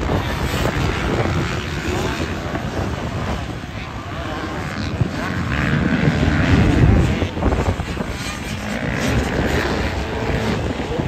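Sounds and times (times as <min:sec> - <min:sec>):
dirt bikes revving: 0:00.0 - 0:11.0.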